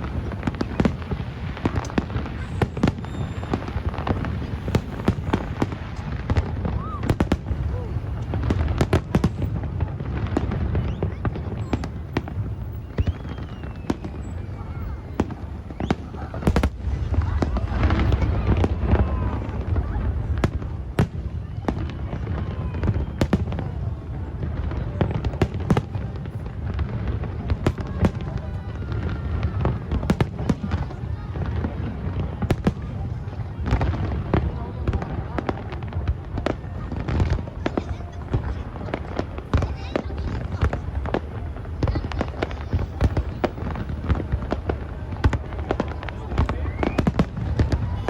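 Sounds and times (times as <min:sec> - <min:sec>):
fireworks bangs and crackles: 0:00.0 - 0:48.0
low rumble of crowd: 0:00.0 - 0:48.0.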